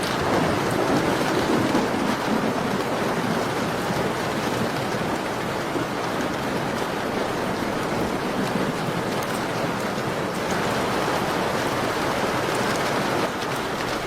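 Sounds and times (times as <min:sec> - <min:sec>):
rain on a window: 0:00.0 - 0:14.0.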